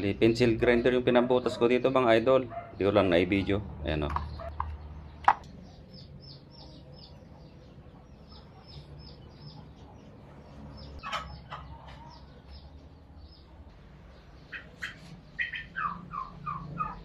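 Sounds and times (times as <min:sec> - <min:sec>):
birds peeping: 0:00.0 - 0:17.0.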